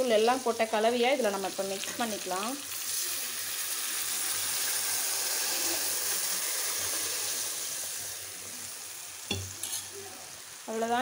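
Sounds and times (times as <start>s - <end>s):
liquid sizzling in hot oil: 0.0s - 11.0s.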